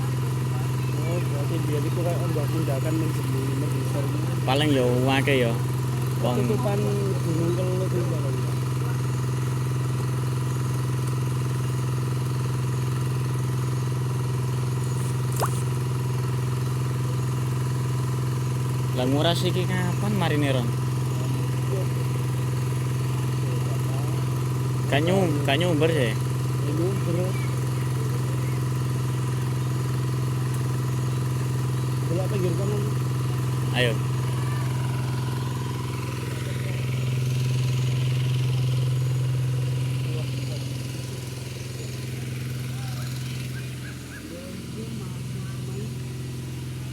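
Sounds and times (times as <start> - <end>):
small engine running: 0.0 - 46.9.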